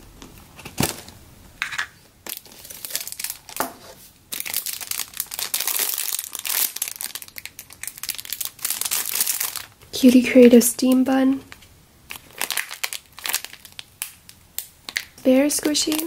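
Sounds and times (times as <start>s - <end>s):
plastic bag crinkling: 2.2s - 16.0s.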